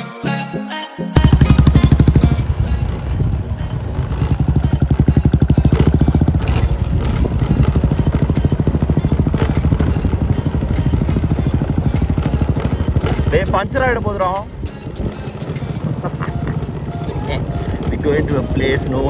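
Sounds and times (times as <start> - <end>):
vehicle engine throbbing: 1.2 - 19.0.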